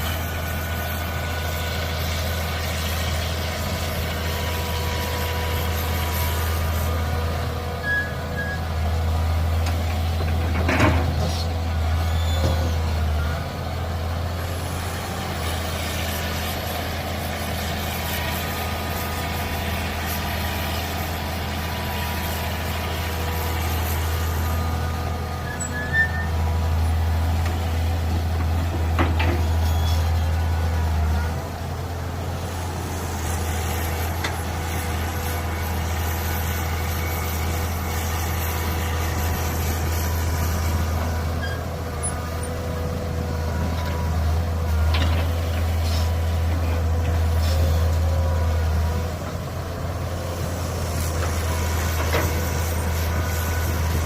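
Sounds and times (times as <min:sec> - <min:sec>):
excavator diesel engine running: 0:00.0 - 0:54.0
hydraulics working: 0:00.0 - 0:54.0.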